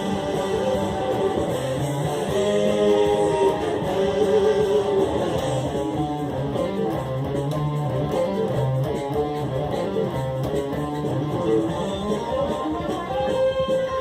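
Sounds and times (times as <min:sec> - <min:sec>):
bass line: 0:00.0 - 0:14.0
electric guitar lines: 0:00.0 - 0:14.0.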